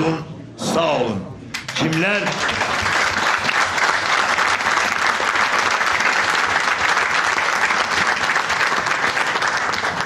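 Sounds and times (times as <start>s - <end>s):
crowd applauding: 1.5s - 10.0s.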